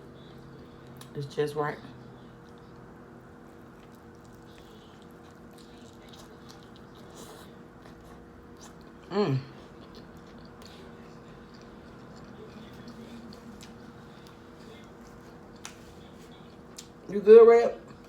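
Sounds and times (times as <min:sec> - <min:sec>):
faint hum: 0:00.0 - 0:18.0
chewing and biting sandwich: 0:02.0 - 0:17.0.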